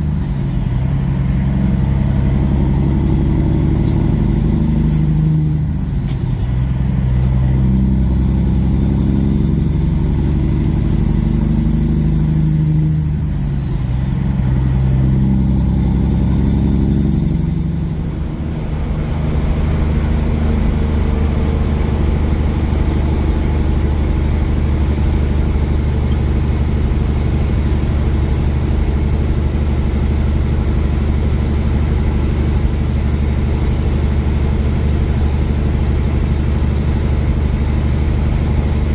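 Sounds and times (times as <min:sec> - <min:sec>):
high turbo whistle: 0:00.0 - 0:38.9
truck diesel engine pulling away: 0:00.0 - 0:38.9.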